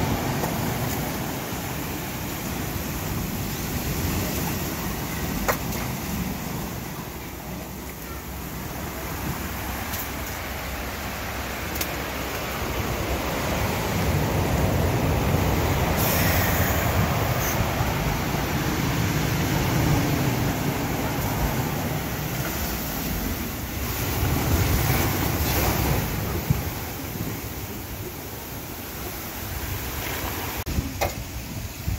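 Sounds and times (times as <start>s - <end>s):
surf waves crashing: 0.0s - 31.9s.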